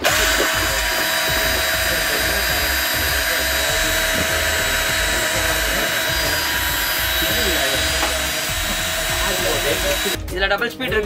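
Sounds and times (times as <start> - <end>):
cordless drill motor whining: 0.0 - 10.2.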